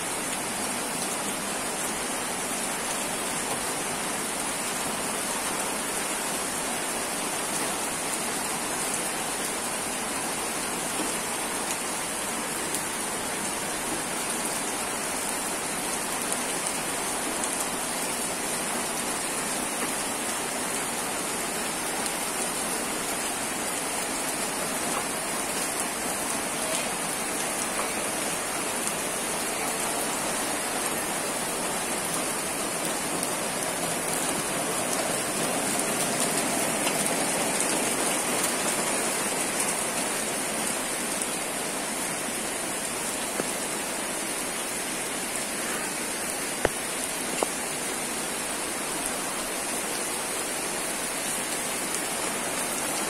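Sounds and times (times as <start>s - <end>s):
steady rain on concrete: 0.0s - 53.0s.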